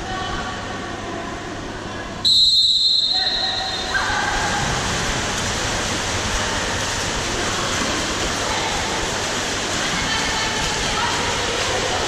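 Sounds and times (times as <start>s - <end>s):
swimmers splashing in indoor pool: 0.0s - 12.0s.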